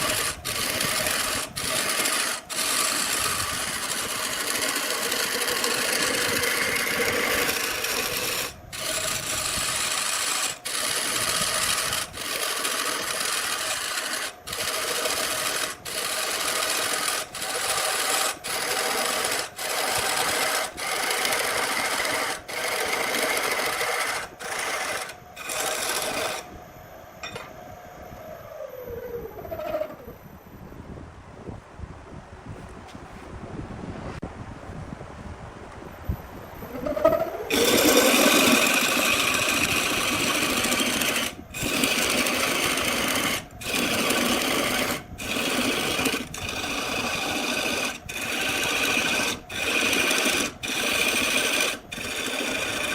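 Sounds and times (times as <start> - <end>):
motor winding down: 0.0 - 26.6, 28.1 - 30.2, 36.6 - 52.9
power tool whining and grinding: 0.0 - 26.6, 36.7 - 52.9.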